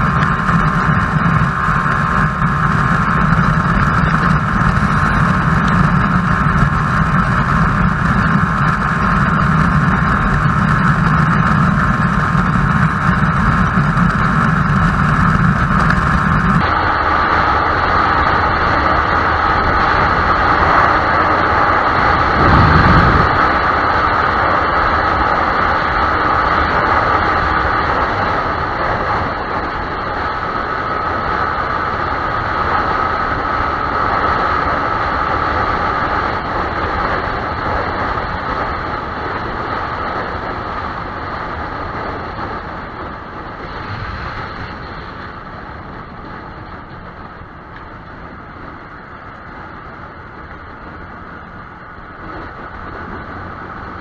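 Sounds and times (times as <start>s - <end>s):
motorcycle engine running: 0.0s - 54.0s
wind and road rush: 0.0s - 54.0s.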